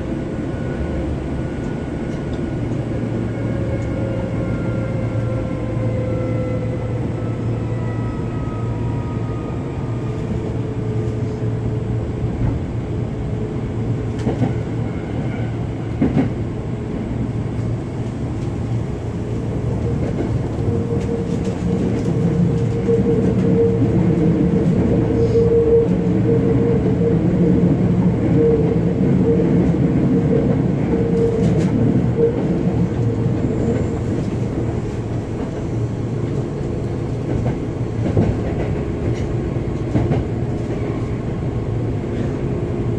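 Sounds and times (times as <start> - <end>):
train wheels and motors rumbling: 0.0 - 42.9.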